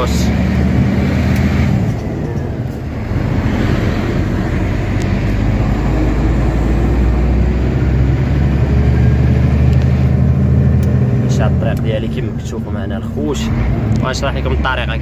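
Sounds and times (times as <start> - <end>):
truck diesel engine running: 0.0 - 15.0
tyre and road noise: 0.0 - 15.0.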